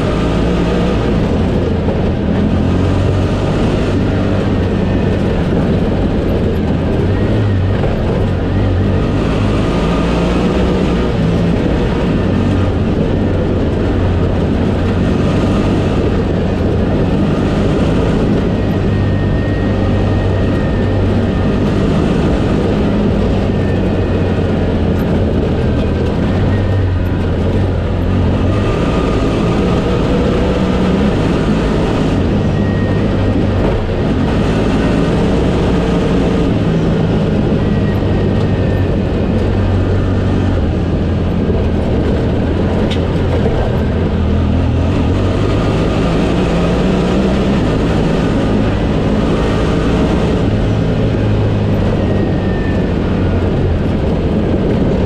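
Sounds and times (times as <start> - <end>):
off-road vehicle engine running: 0.0 - 55.0
wind and tyre noise: 0.0 - 55.0.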